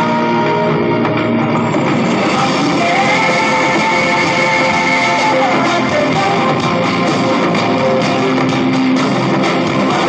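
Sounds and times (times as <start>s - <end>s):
loud guitar-led music: 0.0s - 10.0s.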